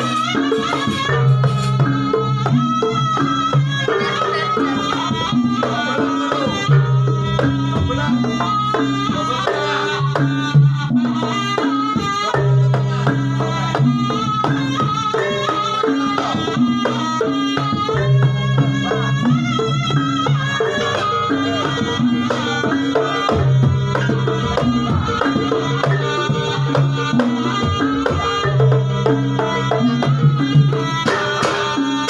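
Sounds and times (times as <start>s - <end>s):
folk dance music: 0.0s - 32.0s
hand-drum percussion: 0.0s - 32.0s.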